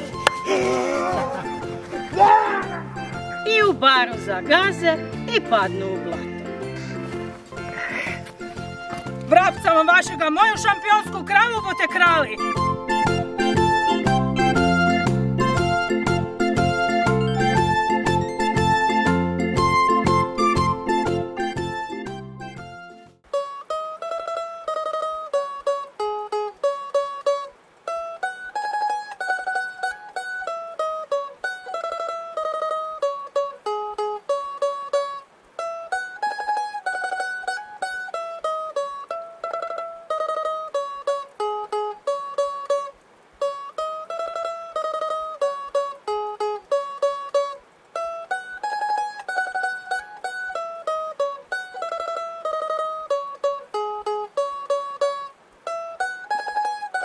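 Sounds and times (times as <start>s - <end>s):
plucked string melody: 0.0s - 57.0s.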